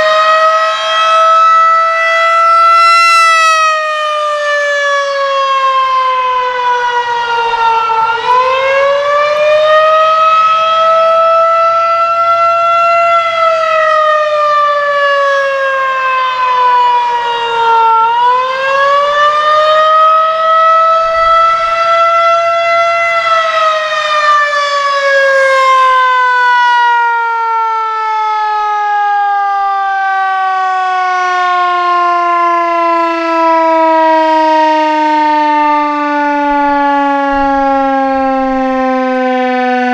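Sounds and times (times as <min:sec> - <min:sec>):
tornado siren rising and falling: 0:00.0 - 0:39.9.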